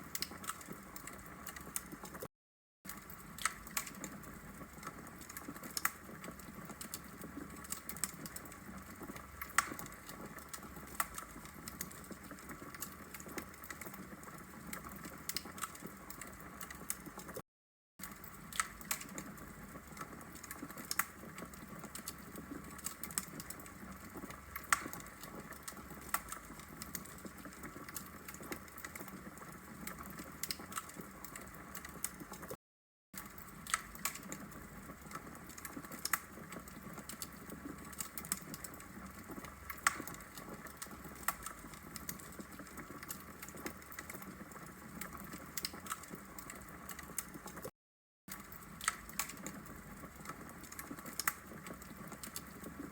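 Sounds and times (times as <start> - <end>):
wood fire crackling and popping: 0.0 - 2.3, 2.9 - 17.4, 18.0 - 32.6, 33.2 - 47.7, 48.3 - 52.9.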